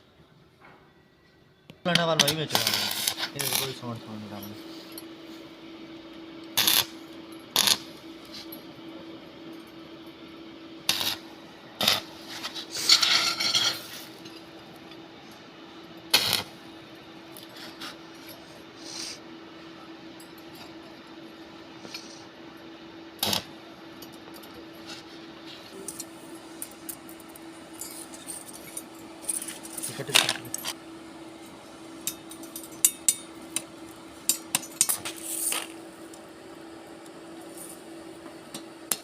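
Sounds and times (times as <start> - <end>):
steady hum: 1.8 - 39.0.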